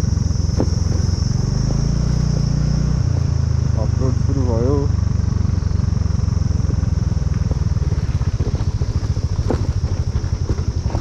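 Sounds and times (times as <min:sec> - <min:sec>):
high-pitched insect buzz: 0:00.0 - 0:11.0
motorcycle engine running: 0:00.0 - 0:11.0.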